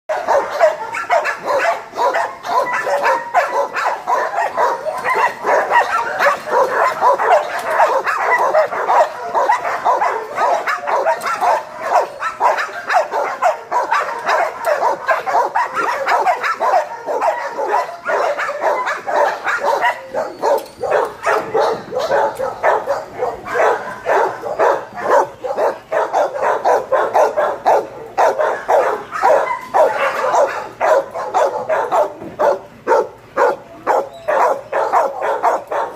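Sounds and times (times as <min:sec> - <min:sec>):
dogs barking: 0:00.1 - 0:35.9.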